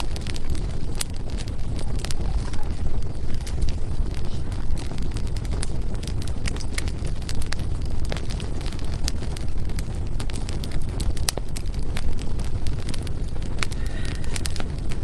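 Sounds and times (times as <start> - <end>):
fire roaring: 0.0 - 15.0
firewood crackling and popping: 0.0 - 15.0.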